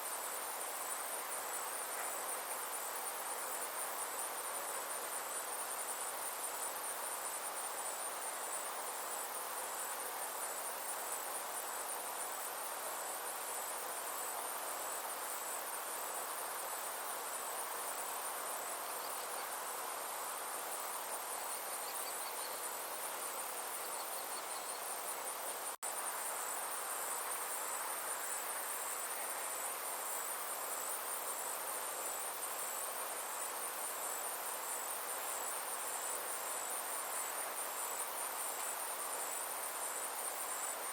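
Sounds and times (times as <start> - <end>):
insects trilling: 0.0 - 40.9
soft background hiss: 0.0 - 40.9.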